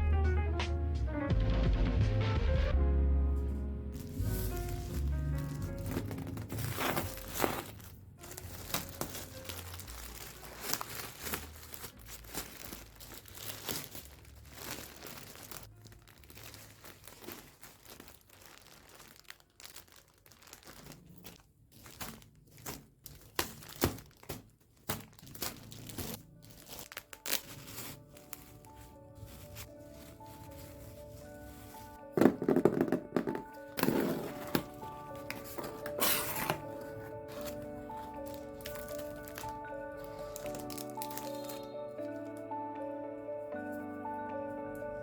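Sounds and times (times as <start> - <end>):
soft background music: 0.0 - 21.9, 22.6 - 45.0
packaging crinkling and tearing: 4.0 - 42.5.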